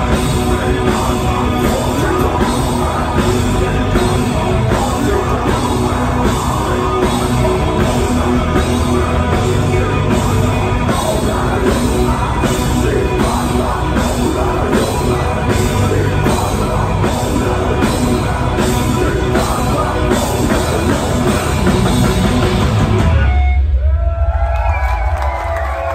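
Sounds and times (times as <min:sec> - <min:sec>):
heavy metal band playing: 0:00.0 - 0:24.8.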